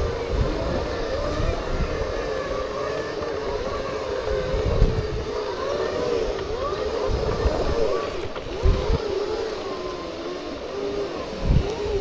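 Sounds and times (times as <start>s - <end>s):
electric whine of segway motors: 0.0s - 12.0s
wind rumble on microphone: 0.0s - 12.0s.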